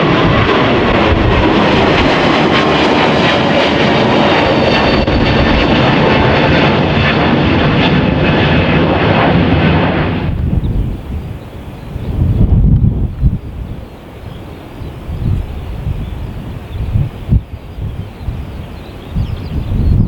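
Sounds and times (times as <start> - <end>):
jet airliner engines running: 0.0 - 20.0.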